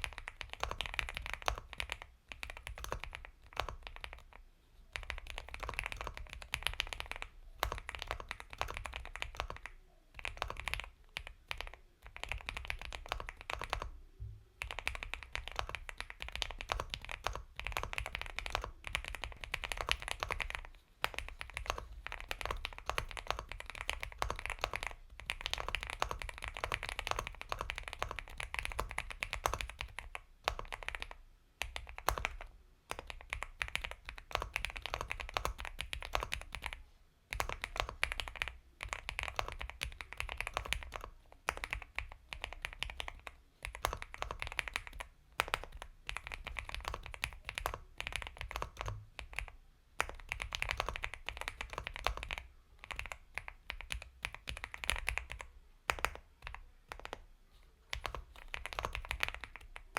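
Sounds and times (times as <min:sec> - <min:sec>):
typing on mechanical keyboard: 0:00.0 - 0:14.0, 0:14.6 - 0:57.2, 0:57.9 - 0:59.9.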